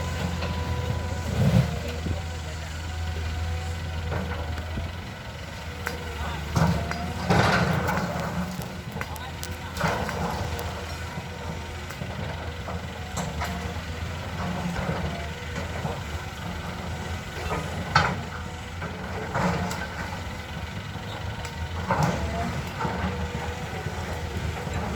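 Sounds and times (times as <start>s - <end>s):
diesel engine rumbling: 0.0s - 24.9s.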